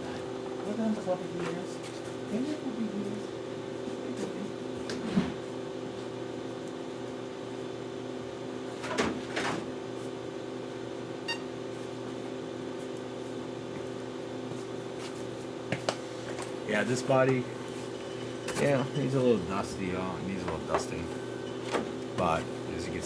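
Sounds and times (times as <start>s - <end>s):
appliance hum: 0.0s - 23.0s.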